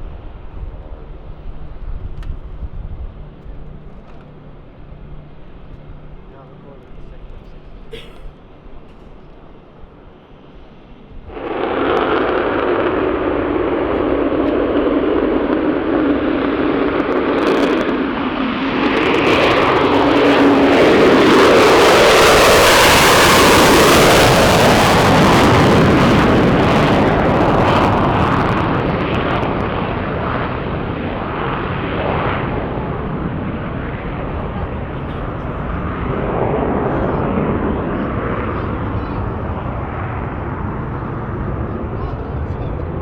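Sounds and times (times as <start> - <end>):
aircraft engine noise: 0.0 - 43.0.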